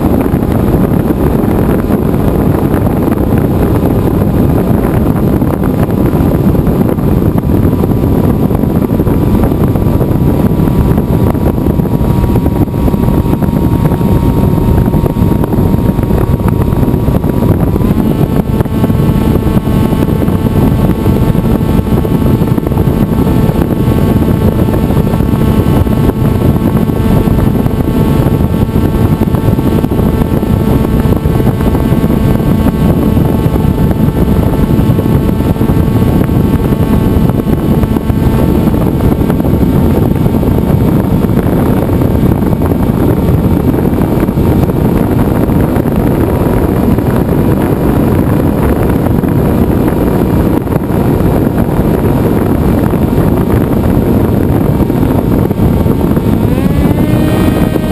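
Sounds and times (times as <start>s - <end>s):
electric motor whine: 0.0s - 57.9s
wind rush on microphone: 0.0s - 57.9s.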